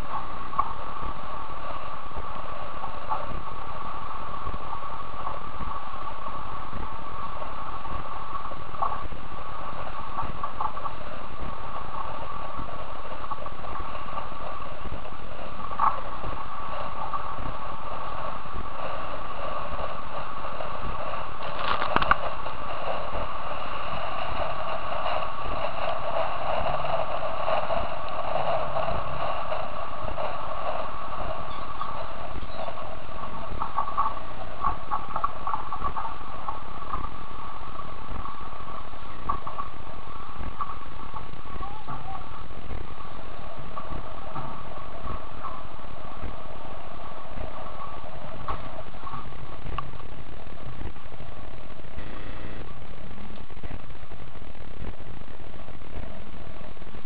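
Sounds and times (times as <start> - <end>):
wind and water rushing past hull: 0.0 - 57.0.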